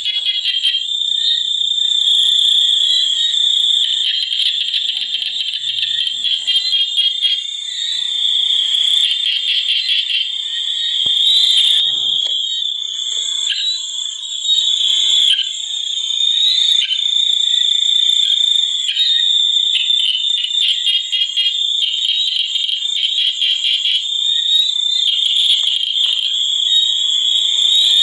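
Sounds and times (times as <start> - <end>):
frogs calling: 0.0 - 28.0
insects trilling: 0.0 - 28.0.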